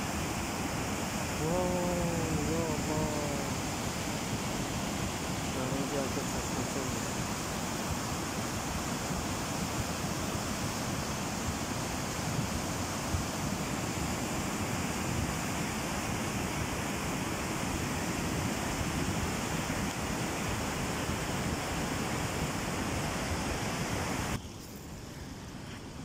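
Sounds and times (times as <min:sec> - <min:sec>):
muddy water rushing: 0:00.0 - 0:24.4.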